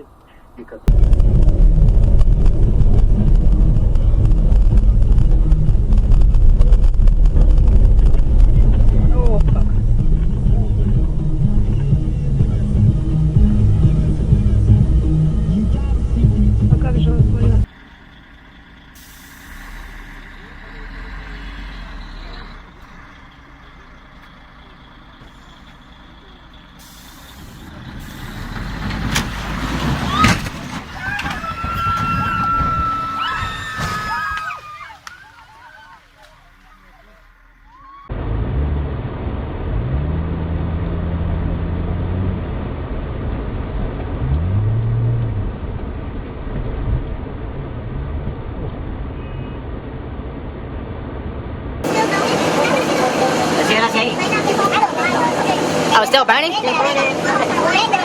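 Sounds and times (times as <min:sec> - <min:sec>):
heavy vehicle engine rumbling: 0:00.0 - 0:58.0
road noise: 0:00.0 - 0:58.0.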